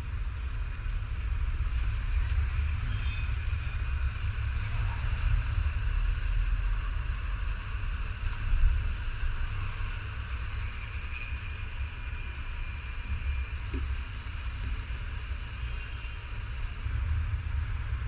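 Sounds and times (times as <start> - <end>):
hot-air rework station blowing: 0.0 - 18.0.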